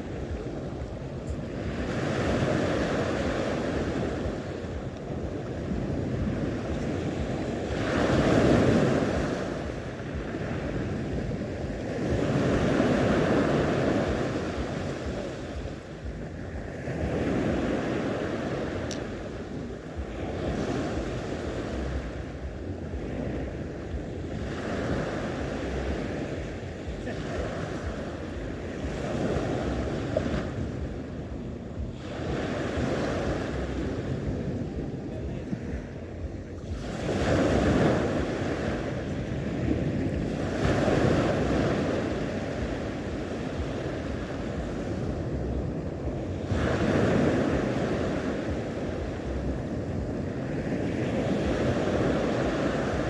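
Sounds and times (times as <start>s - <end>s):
sea waves breaking on shore: 0.0s - 53.0s
wind buffeting the microphone: 0.0s - 53.0s.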